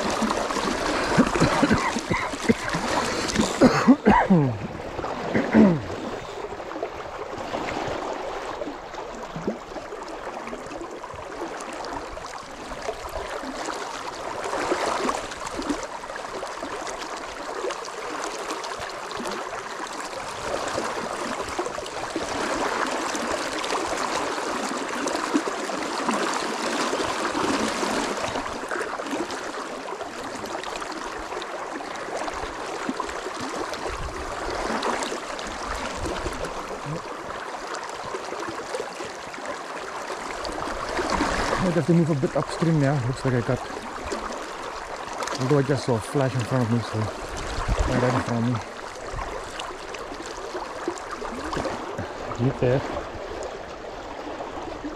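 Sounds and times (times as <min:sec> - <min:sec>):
river water running over rocks: 0:00.0 - 0:54.9.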